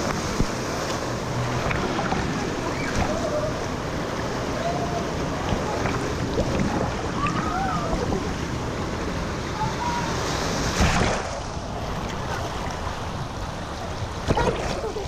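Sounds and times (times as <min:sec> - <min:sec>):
water splash: 0:00.0 - 0:08.5, 0:10.0 - 0:13.2, 0:14.1 - 0:15.0
water sloshing and rushing: 0:00.0 - 0:15.0.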